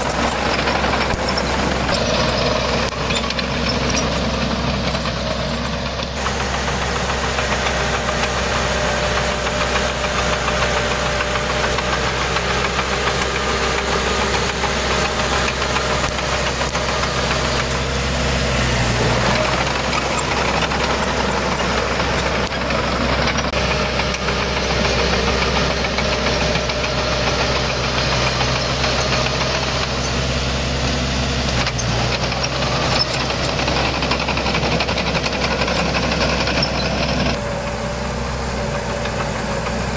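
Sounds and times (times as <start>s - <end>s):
diesel engine running and revving: 0.0s - 39.9s.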